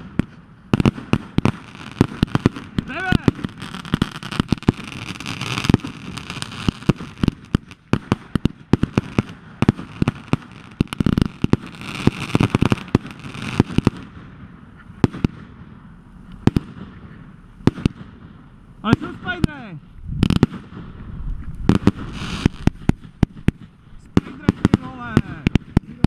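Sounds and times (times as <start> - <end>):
fireworks hissing: 0.0 - 14.2, 18.6 - 26.0
fireworks bangs and pops: 0.0 - 26.0.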